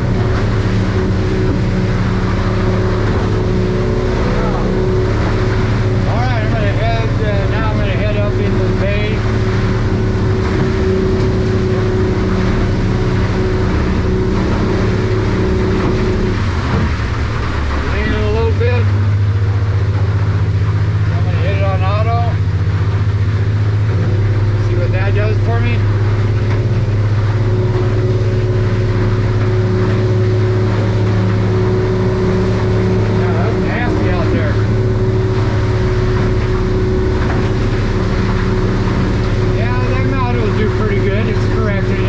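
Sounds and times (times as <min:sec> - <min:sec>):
outboard motor droning: 0:00.0 - 0:42.0.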